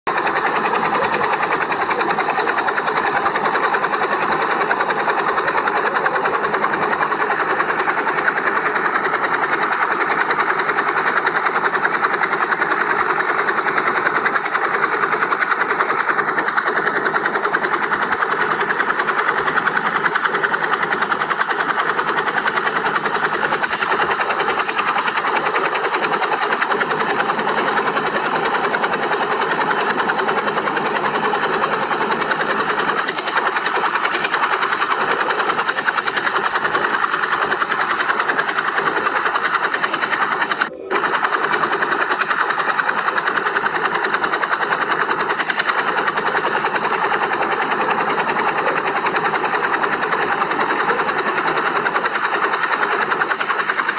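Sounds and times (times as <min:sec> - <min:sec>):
rc helicopter rotor whirring: 0:00.0 - 0:53.9
high motor whine: 0:00.1 - 0:53.9.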